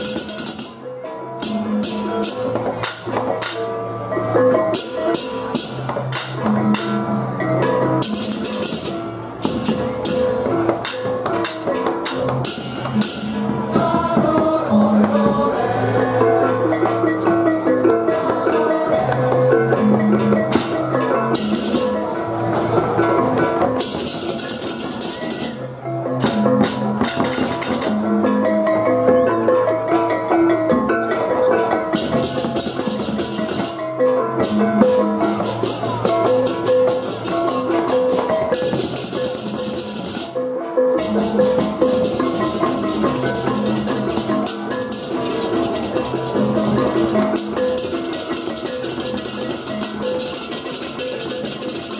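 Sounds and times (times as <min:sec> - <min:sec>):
drums: 0:00.0 - 0:51.9.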